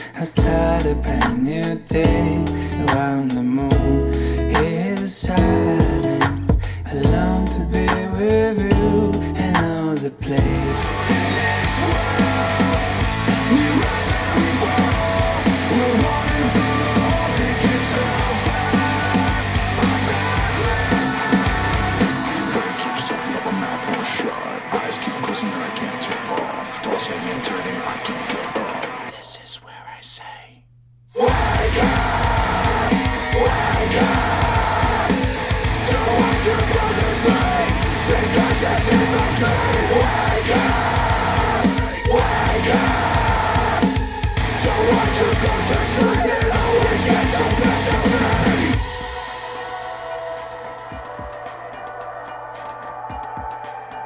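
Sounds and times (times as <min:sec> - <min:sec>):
instrumental rock music: 0:00.0 - 0:28.9, 0:31.3 - 0:51.6.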